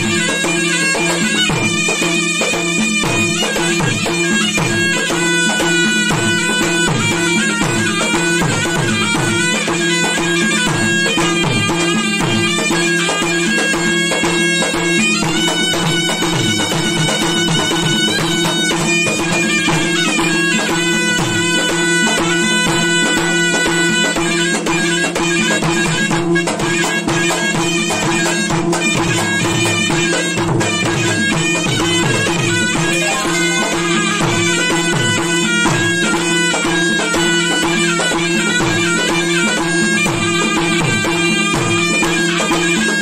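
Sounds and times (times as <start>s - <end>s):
drums beating quick rhythm: 0.0s - 43.0s
reedy shawm melody: 0.0s - 43.0s.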